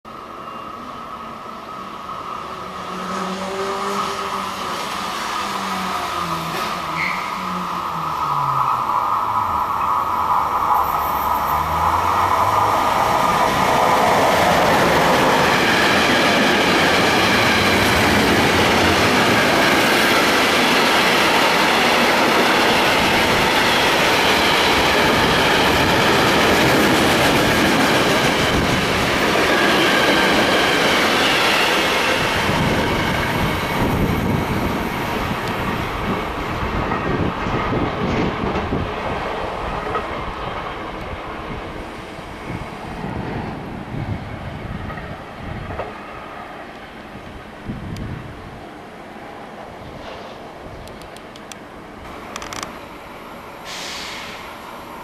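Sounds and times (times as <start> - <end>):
freight train passing: 0.1 - 55.0.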